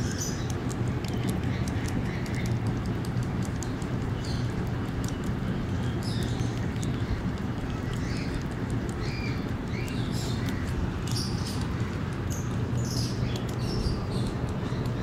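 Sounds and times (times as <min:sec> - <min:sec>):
birds chirping: 0:00.0 - 0:15.0
rabbits crunching leaves: 0:00.0 - 0:15.0
steady low rumble: 0:00.0 - 0:15.0.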